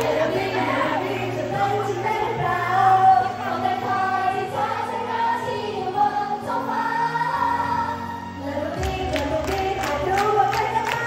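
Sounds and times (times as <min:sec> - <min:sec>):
women singing pop together: 0:00.0 - 0:11.0.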